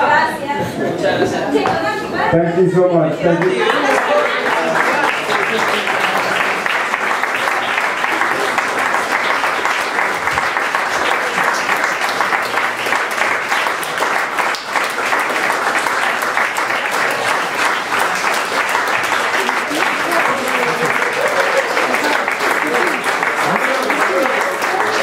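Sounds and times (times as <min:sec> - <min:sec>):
crowd clapping: 0:03.2 - 0:25.0.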